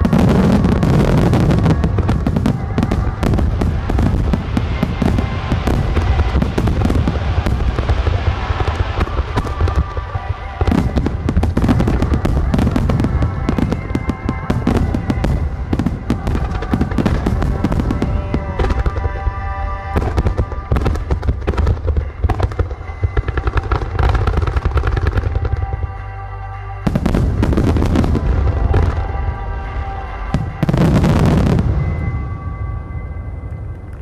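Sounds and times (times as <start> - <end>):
fireworks bangs and crackling: 0.0 - 26.1, 26.8 - 34.0
heavy low rumble: 0.0 - 34.0
music playing: 0.0 - 34.0.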